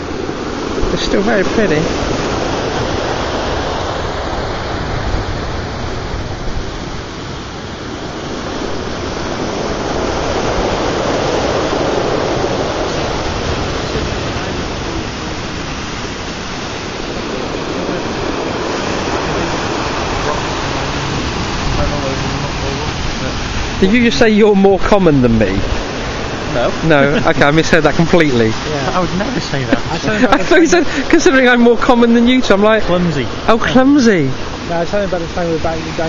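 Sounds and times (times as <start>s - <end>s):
surf breaking on rocks: 0.0s - 36.0s.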